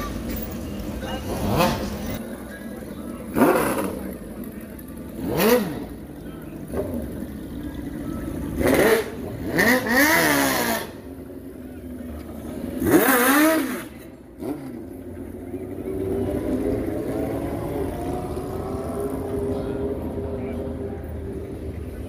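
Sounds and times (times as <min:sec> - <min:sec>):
vehicle engines revving: 0:00.0 - 0:22.0
vehicle pulling away: 0:00.0 - 0:22.0.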